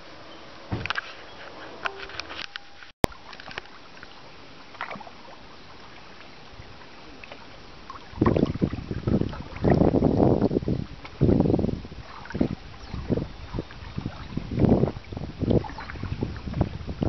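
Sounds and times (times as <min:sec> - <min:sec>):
low rushing water surges: 0:03.1 - 0:17.0.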